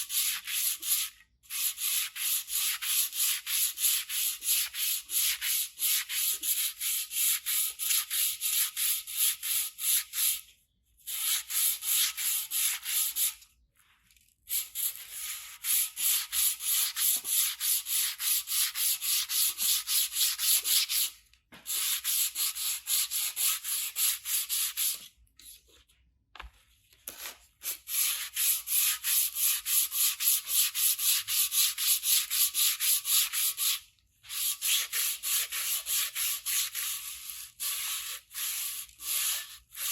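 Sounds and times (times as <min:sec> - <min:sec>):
sandpaper rubbing on metal: 0:00.0 - 0:10.4, 0:11.1 - 0:13.4, 0:14.5 - 0:21.1, 0:21.7 - 0:25.1, 0:27.6 - 0:39.9.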